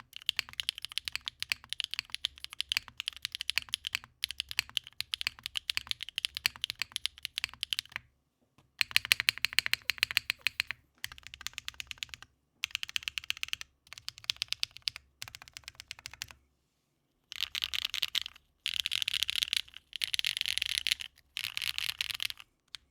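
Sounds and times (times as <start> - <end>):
typing on mechanical keyboard: 0.0 - 8.0, 8.8 - 16.4, 17.3 - 22.9.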